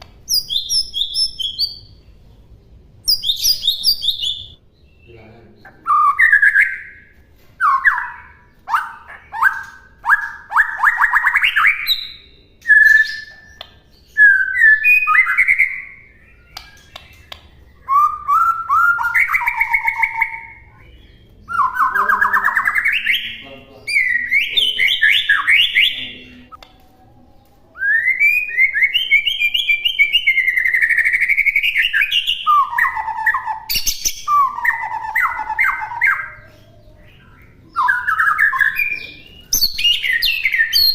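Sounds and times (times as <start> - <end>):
bird singing whistles and trills: 0.3 - 2.0, 3.0 - 26.6, 27.7 - 40.9.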